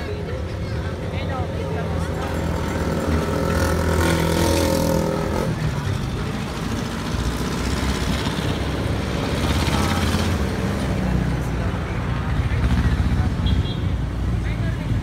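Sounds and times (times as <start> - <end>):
traffic noise: 0.0 - 15.0
vehicle engine humming: 0.0 - 15.0.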